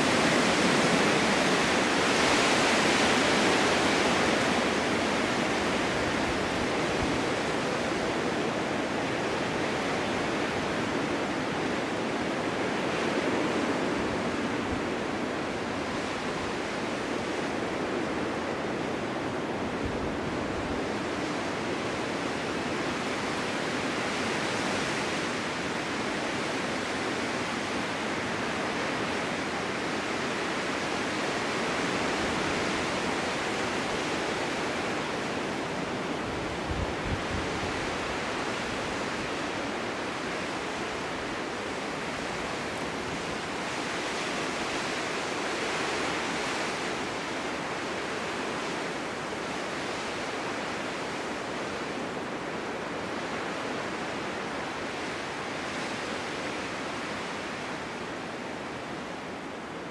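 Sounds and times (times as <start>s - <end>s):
low wind buffet: 0.0s - 59.9s
strong wind blowing: 0.0s - 59.9s.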